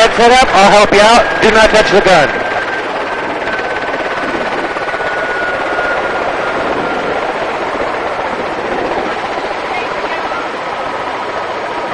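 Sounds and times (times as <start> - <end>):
helicopter turbine and rotor: 0.0 - 11.9.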